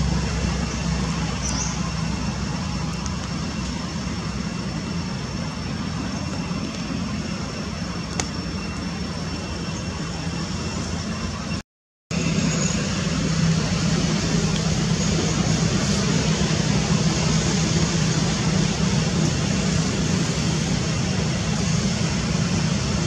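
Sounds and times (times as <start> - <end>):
high-pitched drone: 0.0 - 23.0
low engine-like rumble: 0.0 - 23.0.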